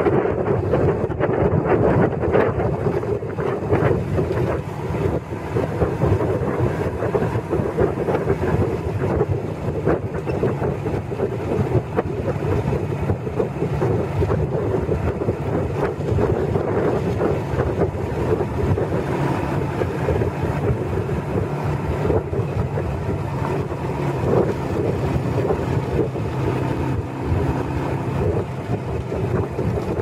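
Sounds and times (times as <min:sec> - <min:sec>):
motorcycle running: 0:00.0 - 0:30.0
road noise: 0:00.0 - 0:30.0
wind buffeting microphone: 0:00.0 - 0:30.0.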